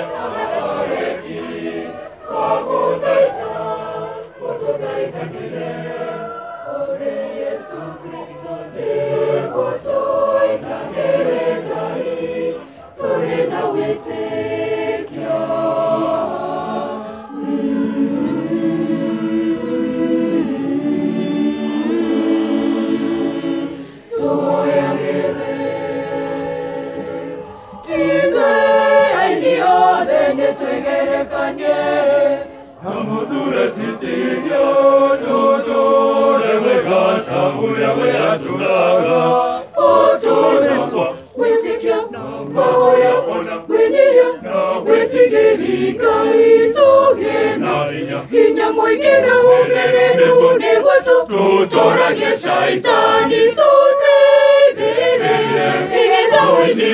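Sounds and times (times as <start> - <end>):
mixed choir singing: 0.0 - 56.9.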